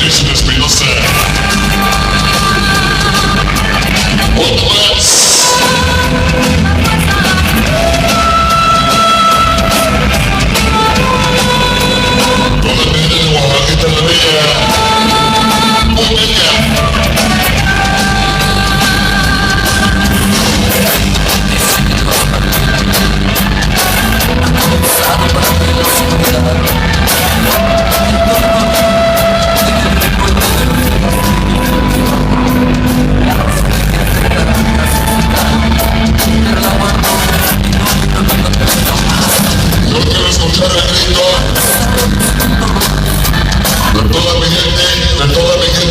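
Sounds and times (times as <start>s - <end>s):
dance music with steady beat: 0.0s - 45.9s
person singing: 0.8s - 45.9s.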